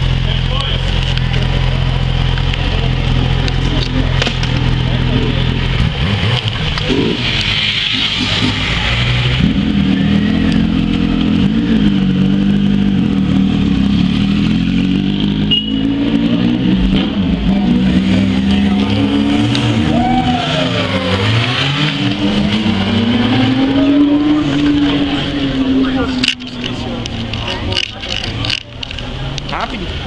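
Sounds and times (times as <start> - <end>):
motorcycle engine running and revving: 0.0 - 30.0.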